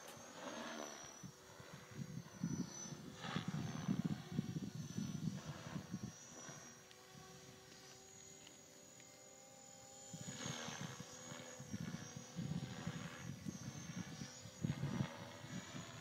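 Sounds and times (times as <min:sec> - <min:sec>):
rc helicopter motor whine: 0:00.0 - 0:16.0
rotor hum: 0:00.0 - 0:16.0.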